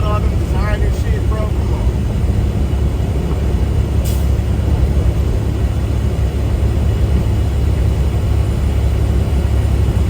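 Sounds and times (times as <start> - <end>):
road noise: 0.0 - 10.0
truck engine rumble: 0.0 - 10.0.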